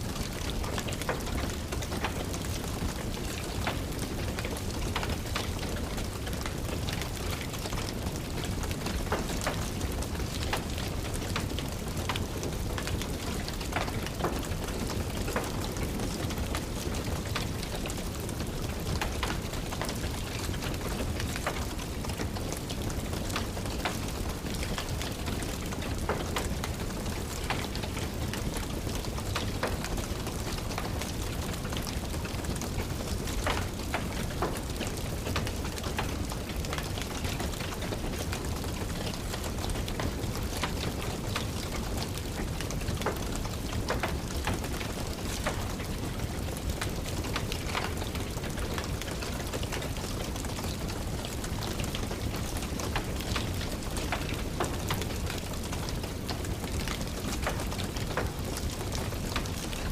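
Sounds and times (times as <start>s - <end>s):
steady rain: 0.0s - 59.9s
fire crackling: 0.2s - 59.9s.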